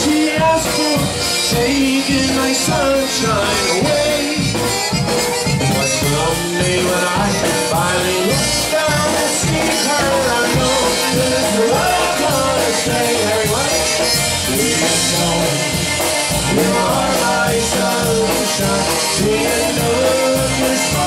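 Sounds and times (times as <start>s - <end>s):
button concertina melody: 0.0s - 21.0s
polka band playing: 0.0s - 21.0s.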